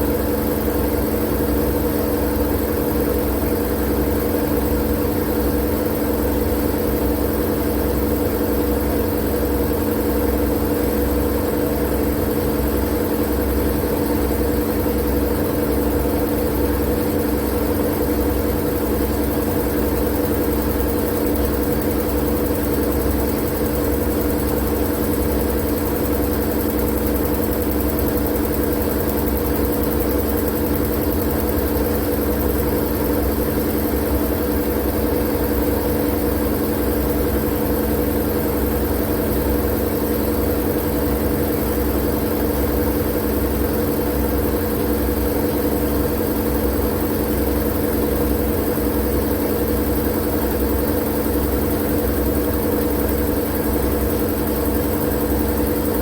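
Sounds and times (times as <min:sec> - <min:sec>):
mechanical white noise drone: 0:00.0 - 0:56.0.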